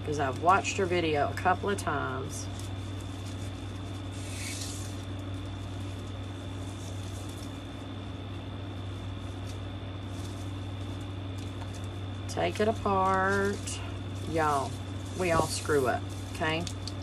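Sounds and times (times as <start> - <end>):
steady low hum: 0.0 - 17.0
ribbon rustling: 0.2 - 17.0.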